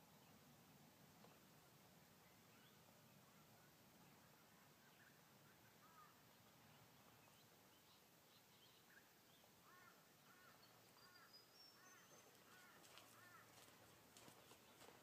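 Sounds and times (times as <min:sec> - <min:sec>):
background hiss: 0:00.0 - 0:15.0
faint bird calls: 0:02.2 - 0:15.0.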